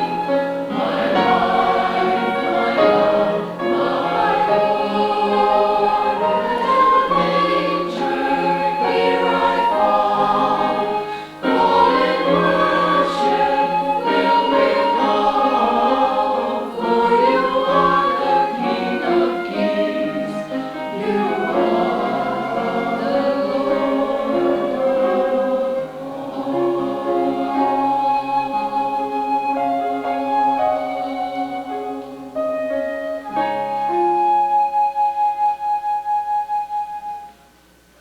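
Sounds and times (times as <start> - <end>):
choir singing: 0.0 - 34.3.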